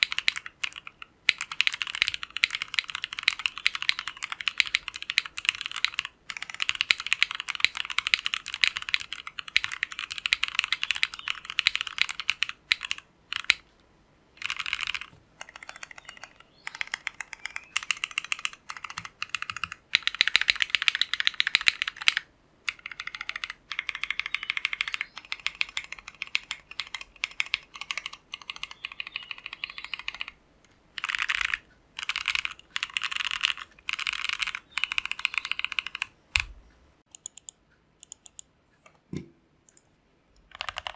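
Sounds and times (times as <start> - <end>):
fast typing on mechanical keyboard: 0.0 - 13.6, 14.4 - 30.4, 31.0 - 36.5, 40.5 - 40.9.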